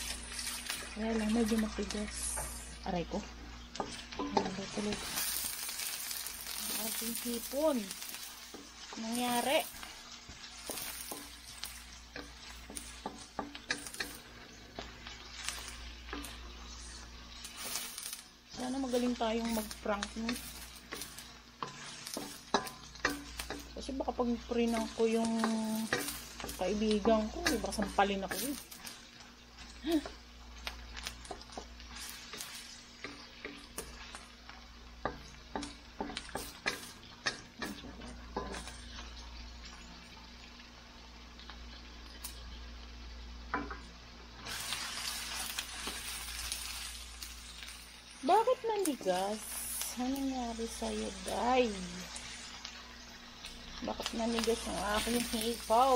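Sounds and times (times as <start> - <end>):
wooden spatula scraping wok: 0.0 - 39.9, 43.5 - 53.0
vegetables sizzling in oil: 0.0 - 55.9.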